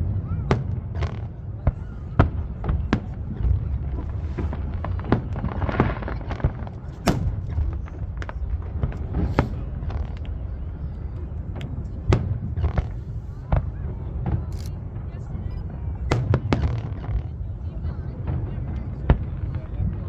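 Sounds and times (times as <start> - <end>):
continuous low rumble: 0.0 - 20.0
fireworks bangs and pops: 0.0 - 20.0.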